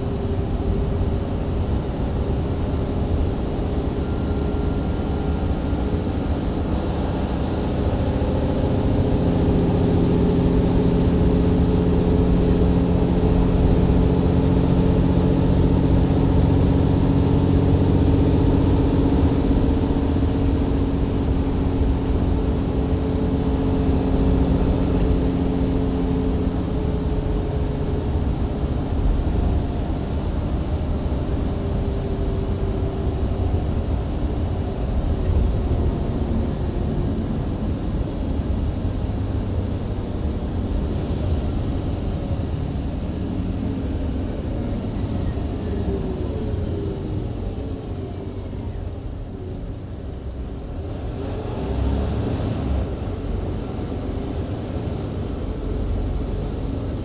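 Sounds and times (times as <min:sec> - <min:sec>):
bus engine and gearbox drone: 0:00.0 - 0:57.0
road rumble: 0:00.0 - 0:57.0.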